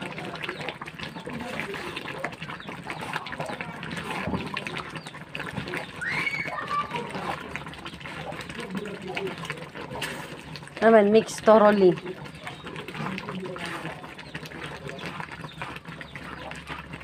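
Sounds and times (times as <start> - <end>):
spatula stirring: 0.0 - 17.0
syrup bubbling and popping: 0.0 - 17.0.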